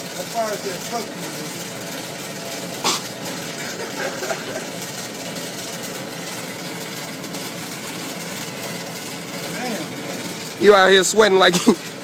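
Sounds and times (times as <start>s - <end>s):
engine-like hum: 0.0s - 12.0s.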